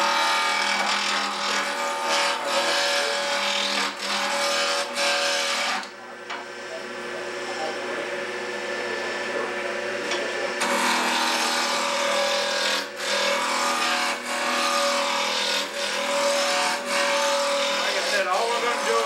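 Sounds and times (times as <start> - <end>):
turning tool cutting wood: 0.0 - 19.0
wood lathe running: 0.0 - 19.0.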